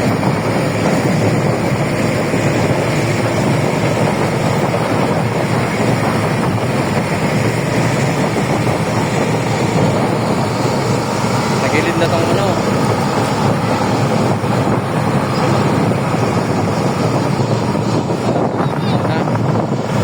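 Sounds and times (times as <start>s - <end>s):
engine drone: 0.0s - 20.0s
wind rushing on microphone: 0.0s - 20.0s.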